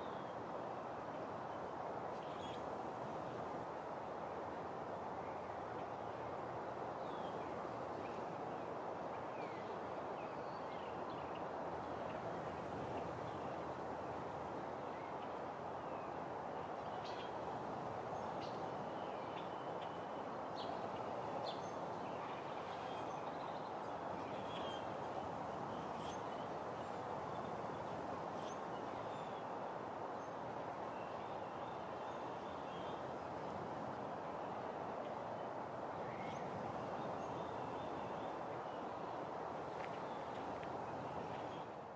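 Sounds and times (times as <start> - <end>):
outdoor background noise: 0.0 - 41.9.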